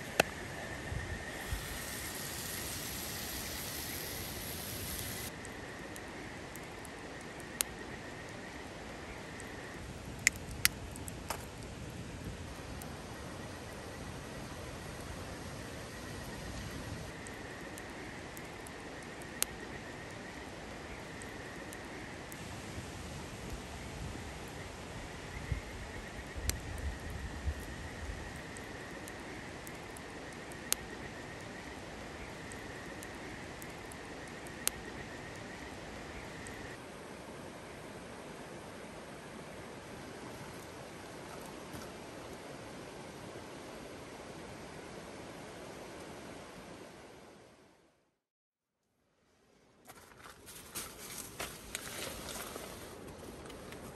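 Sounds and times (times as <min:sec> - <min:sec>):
faint steady hiss: 0:00.0 - 0:48.0, 0:48.8 - 0:53.9.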